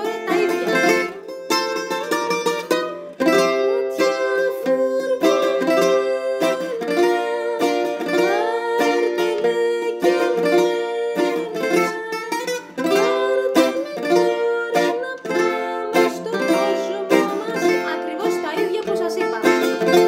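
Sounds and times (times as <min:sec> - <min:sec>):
bouzouki melody: 0:00.0 - 0:20.0.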